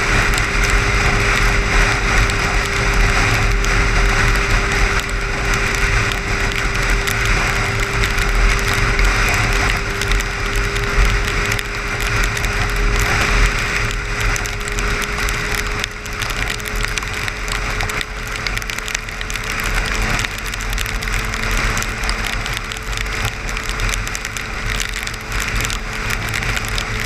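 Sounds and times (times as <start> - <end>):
car road rumble and tyre hiss: 0.0 - 27.0.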